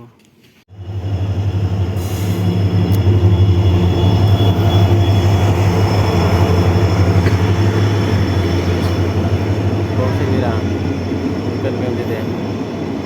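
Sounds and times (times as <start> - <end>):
train passing drone and rumble: 0.7 - 13.0.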